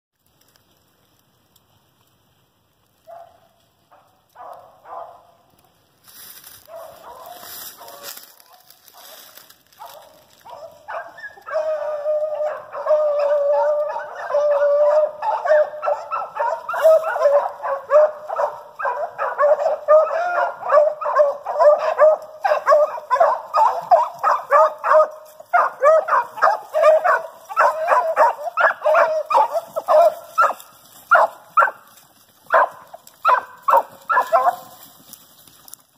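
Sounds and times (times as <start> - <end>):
hounds baying and barking: 3.0 - 5.4, 6.6 - 35.2.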